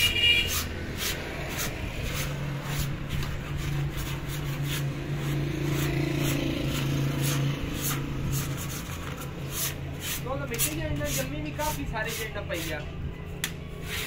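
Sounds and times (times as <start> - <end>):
vehicle engine humming: 0.0 - 11.7
hand tool scraping mud off concrete: 0.5 - 12.8.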